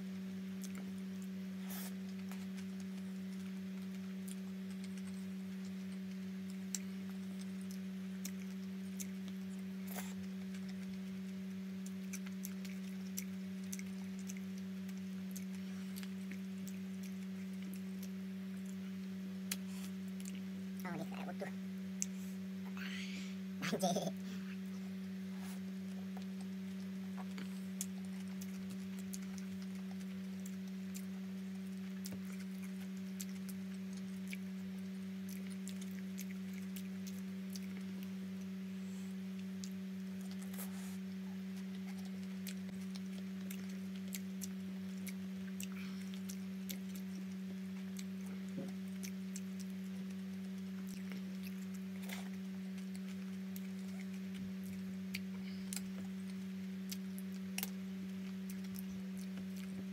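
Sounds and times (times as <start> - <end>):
steady low hum: 0.0 - 59.9
wet chewing and mouth smacking: 0.5 - 21.0, 24.5 - 59.9.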